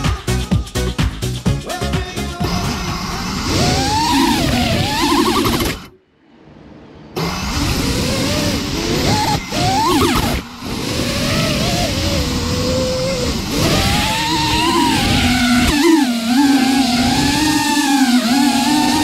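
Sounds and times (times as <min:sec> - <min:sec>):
drone motors whining: 0:02.4 - 0:05.9, 0:07.2 - 0:19.0.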